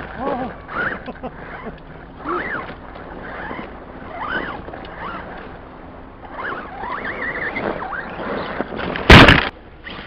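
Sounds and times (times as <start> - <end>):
electric motor and gear whine: 0.0 - 10.0.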